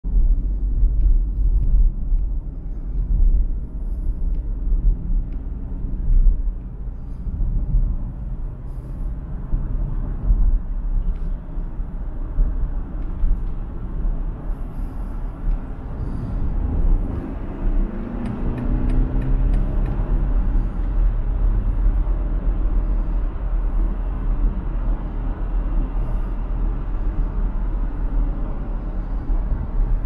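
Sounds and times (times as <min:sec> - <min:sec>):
car tyre and road noise: 0:00.0 - 0:30.0.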